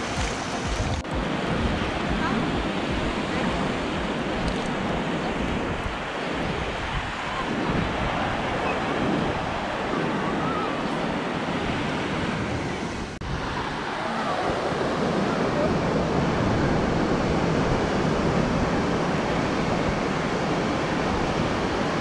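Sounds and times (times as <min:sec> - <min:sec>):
ocean surf washing ashore: 0:00.0 - 0:22.0
wind buffeting microphone: 0:00.0 - 0:22.0.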